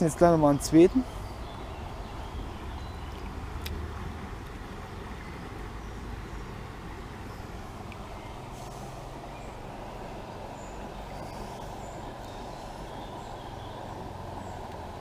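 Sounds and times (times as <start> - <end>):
water rushing over shallows: 0.0 - 15.0.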